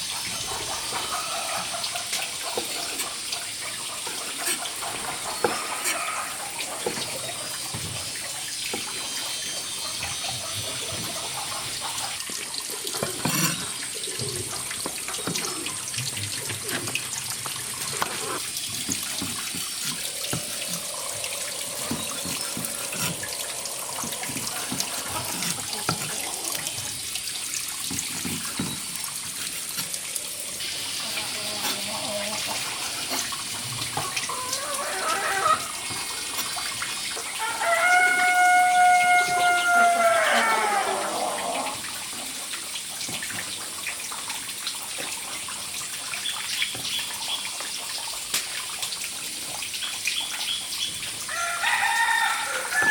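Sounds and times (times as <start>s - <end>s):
water running: 0.0s - 52.9s.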